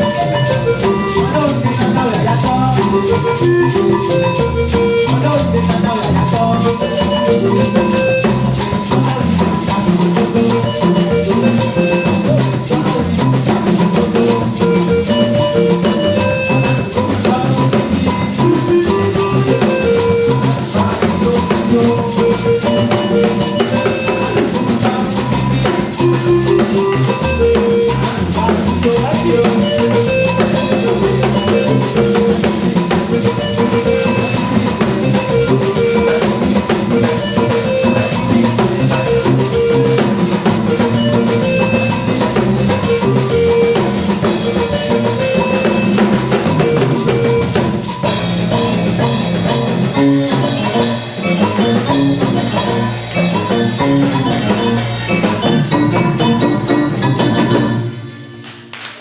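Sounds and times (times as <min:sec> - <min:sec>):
drum beat: 0:00.0 - 0:57.7
short repeating pitched notes: 0:00.0 - 0:58.7
rattling shaker percussion: 0:00.0 - 0:59.0.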